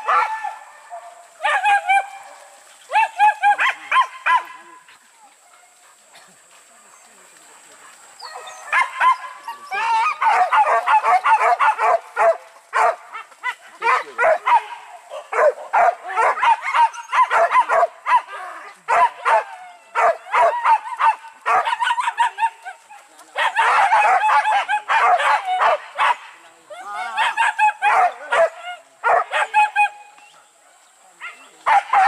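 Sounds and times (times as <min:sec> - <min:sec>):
dogs barking and yelping: 0:00.0 - 0:32.0.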